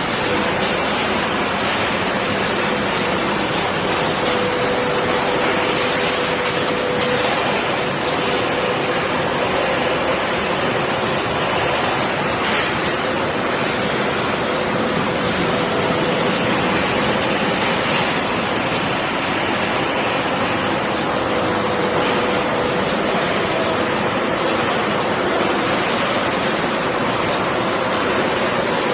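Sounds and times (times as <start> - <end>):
recycling machinery running: 0.0 - 28.9.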